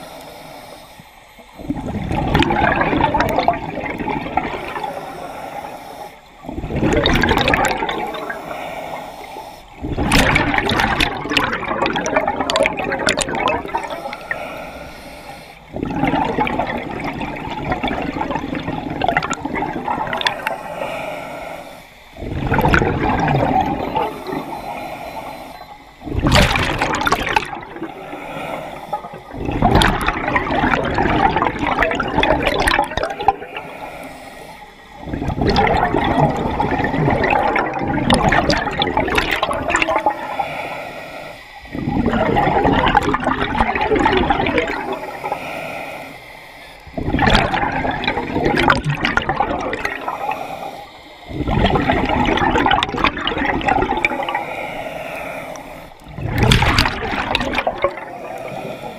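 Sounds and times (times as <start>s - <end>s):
exhaled bubbles rushing underwater: 1.4s - 58.9s.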